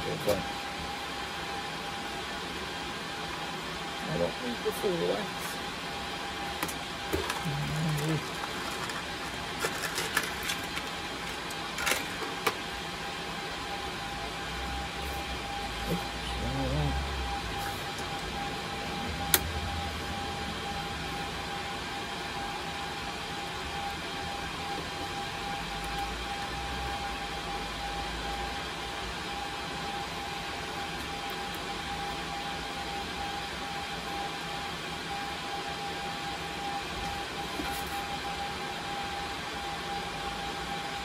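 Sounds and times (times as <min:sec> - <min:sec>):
cooling fans whirring: 0:00.0 - 0:41.0.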